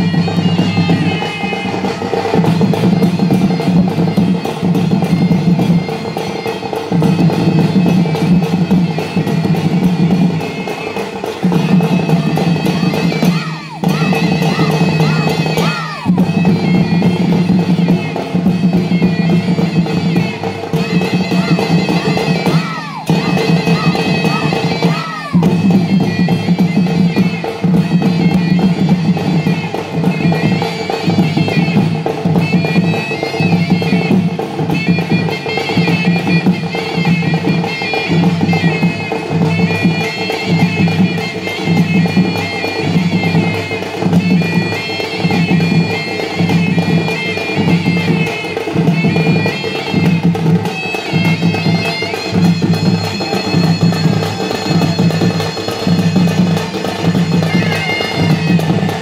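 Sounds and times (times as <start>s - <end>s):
drums and percussion: 0.0s - 59.0s
shrill reed pipe melody: 0.0s - 59.0s.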